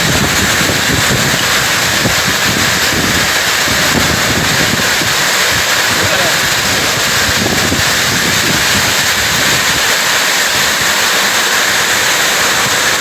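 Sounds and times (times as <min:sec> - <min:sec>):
strong storm wind rushing: 0:00.0 - 0:13.0.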